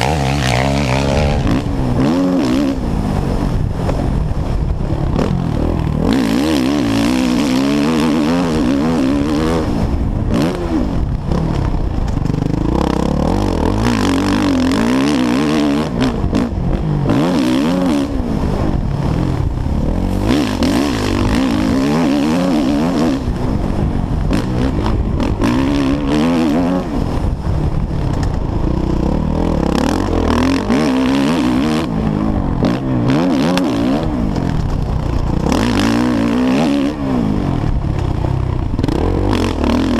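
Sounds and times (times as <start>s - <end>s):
motocross engine revving: 0.0s - 3.4s, 5.2s - 11.6s, 12.2s - 27.3s, 28.6s - 39.9s.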